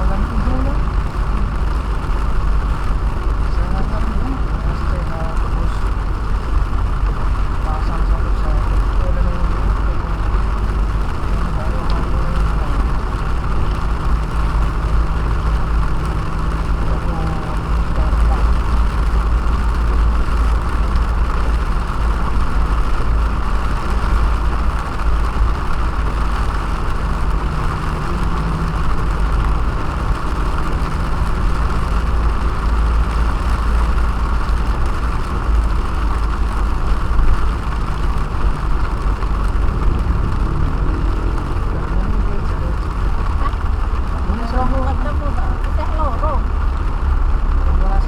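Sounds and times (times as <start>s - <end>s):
car engine and road rumble: 0.0s - 48.0s
rain and wet tyres hissing: 0.0s - 48.0s.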